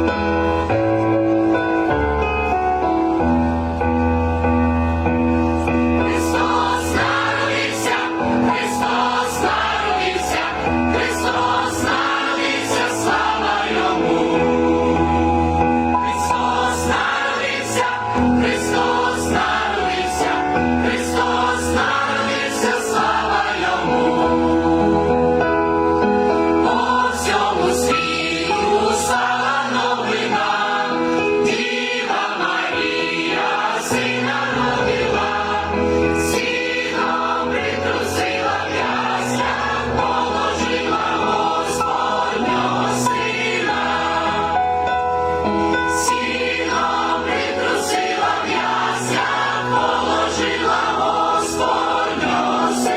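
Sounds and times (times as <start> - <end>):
choir singing a carol: 0.0 - 52.9
musical accompaniment: 0.0 - 52.9.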